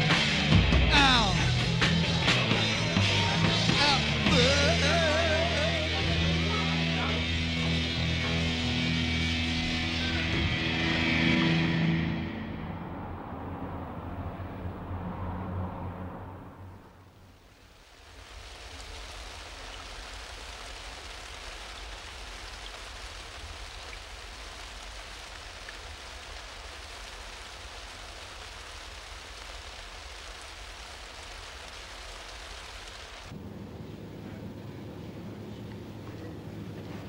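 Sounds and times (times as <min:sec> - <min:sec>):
low hum: 0:00.0 - 0:31.4, 0:32.0 - 0:37.0
steady outdoor hiss: 0:00.0 - 0:37.0.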